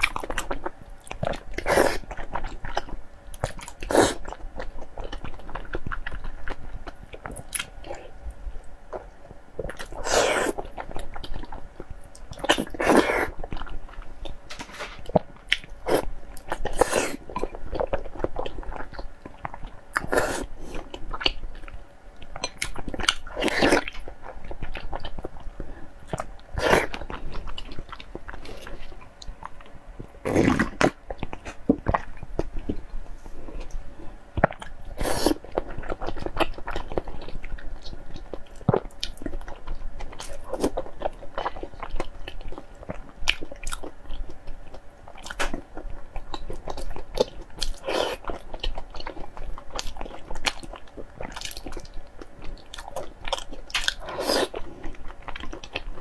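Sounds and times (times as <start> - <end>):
chewing soft food: 0.0 - 56.0.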